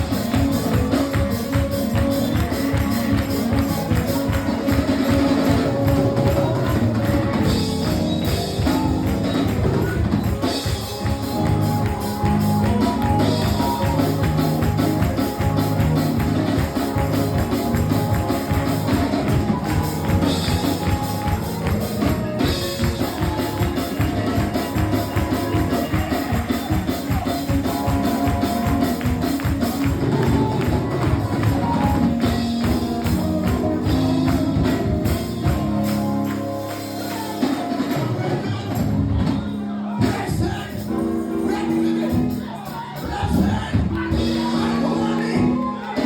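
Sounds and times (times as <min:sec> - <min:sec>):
tambourine shaking: 0:00.0 - 0:38.4
church band music: 0:00.0 - 0:46.0.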